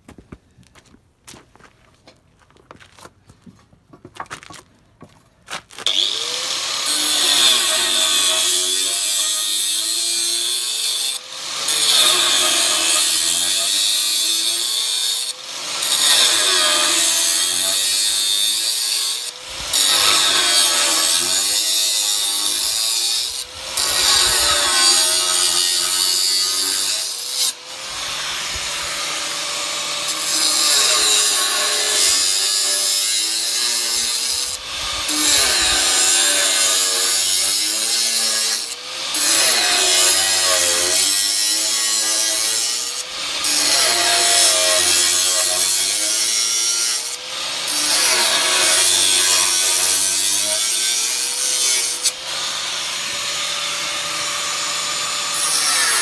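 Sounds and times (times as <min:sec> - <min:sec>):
power tool cutting metal: 0:05.9 - 0:56.0.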